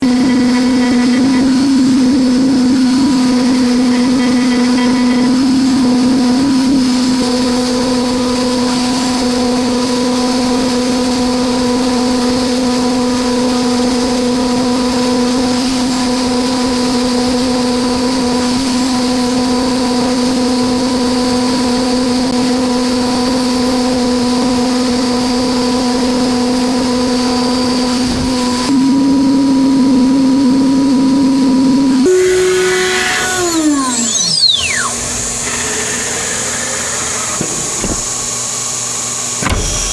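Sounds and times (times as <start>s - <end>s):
router spindle whine: 0.0s - 28.9s, 29.8s - 39.9s.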